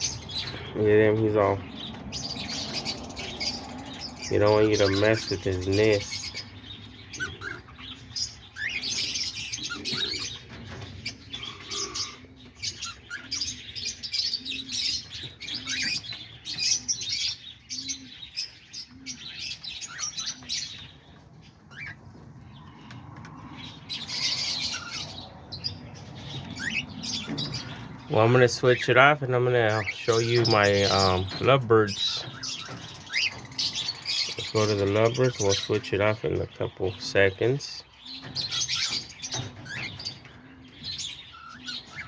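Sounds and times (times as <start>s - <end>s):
cockatiels chirping and calling: 0.0s - 42.0s.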